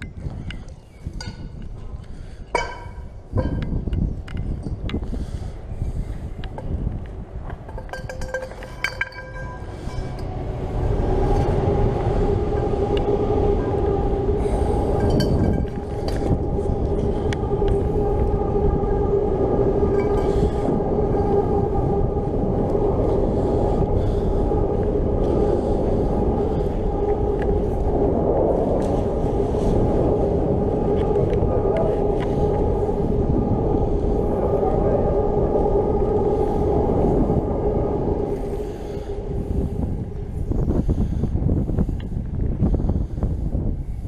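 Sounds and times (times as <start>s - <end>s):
machine rumbling with droning hum: 0.0s - 44.0s.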